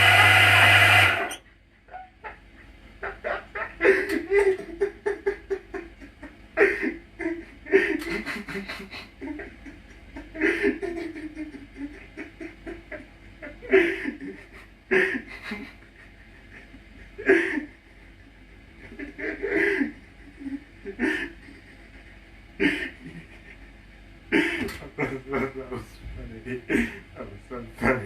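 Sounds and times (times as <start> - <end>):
person laughing: 0.0 - 25.9, 26.5 - 27.2.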